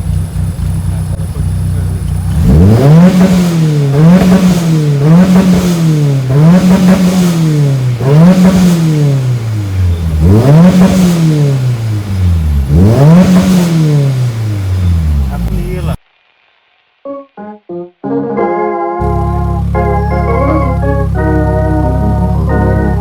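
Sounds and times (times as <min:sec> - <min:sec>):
car engine revving: 0:00.0 - 0:16.5, 0:19.0 - 0:23.0.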